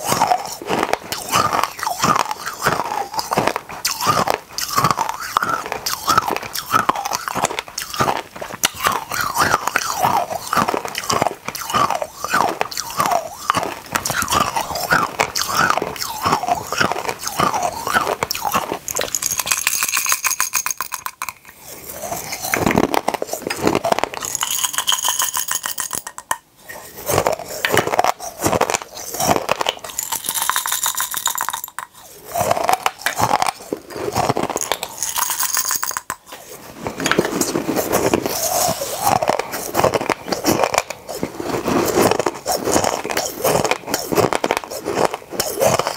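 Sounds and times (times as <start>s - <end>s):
crunching hard candies: 0.0s - 45.9s.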